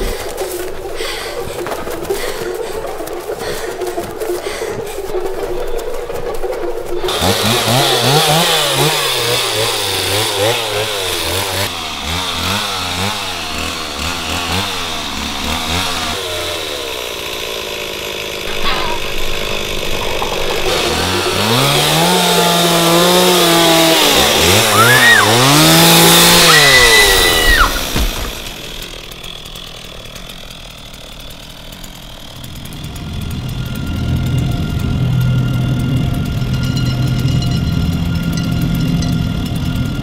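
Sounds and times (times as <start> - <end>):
chainsaw engine revving: 0.0 - 40.0.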